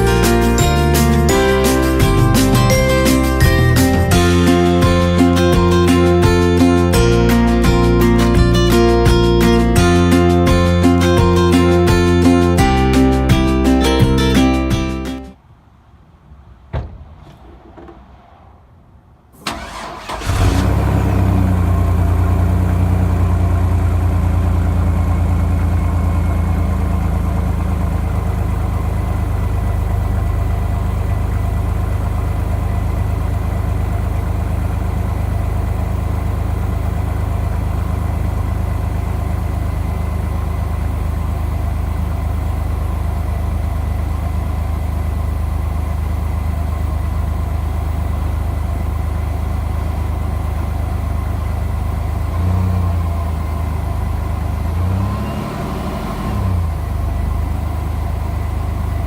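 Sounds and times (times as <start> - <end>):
truck engine cranking and idling: 0.0 - 15.3, 19.3 - 59.0.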